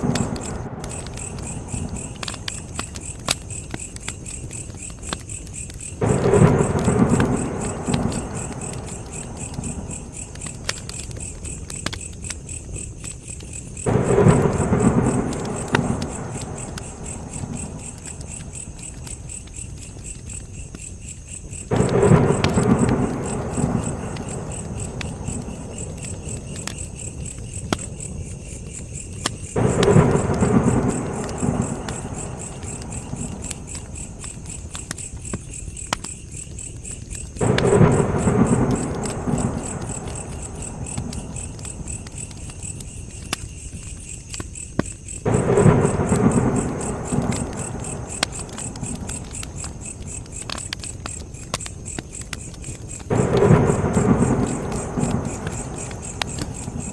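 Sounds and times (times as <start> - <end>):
insect chirring: 0.0 - 56.9
wood fire crackling: 0.0 - 56.9.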